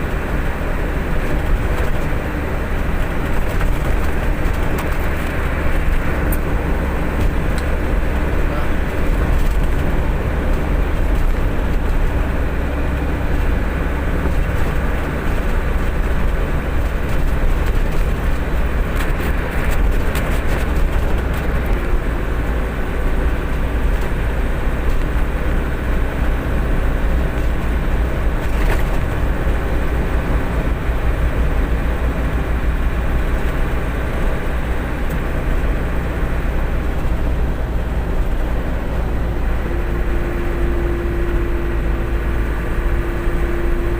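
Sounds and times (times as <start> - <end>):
road noise: 0.0 - 43.9
truck engine running: 0.0 - 43.9.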